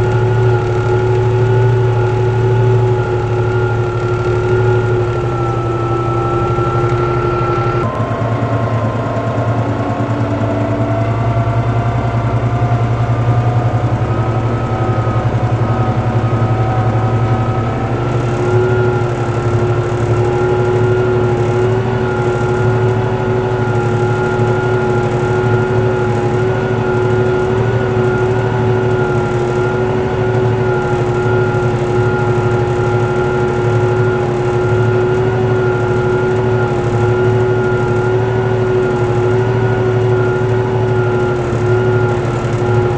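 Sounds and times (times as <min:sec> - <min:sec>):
tractor engine under load: 0:00.0 - 0:08.0, 0:11.0 - 0:42.9.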